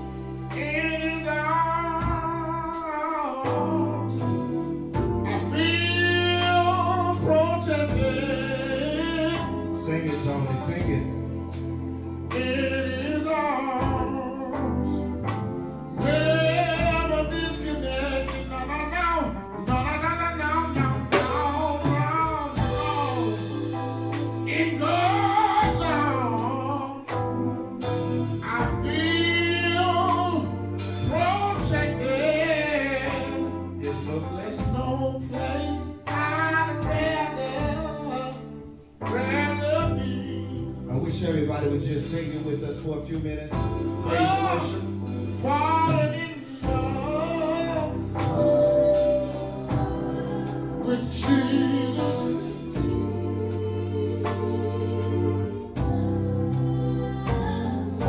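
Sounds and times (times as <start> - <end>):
gospel worship music with singing: 0.0 - 58.0.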